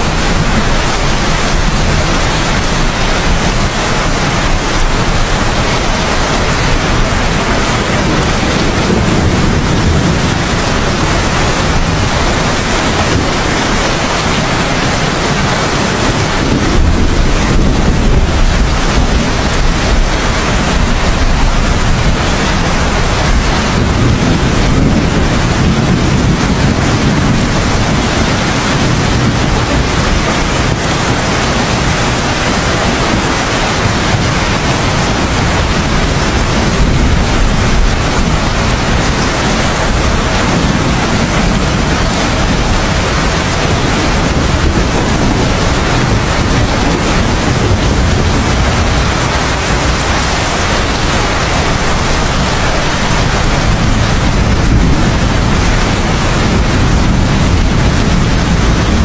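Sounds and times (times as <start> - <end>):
heavy rain: 0.0 - 59.0
low thunder rumbling: 0.0 - 59.0.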